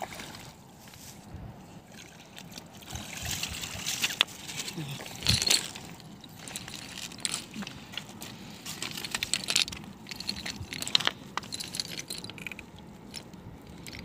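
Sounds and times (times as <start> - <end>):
cast net clicks and rustles: 1.9 - 14.0.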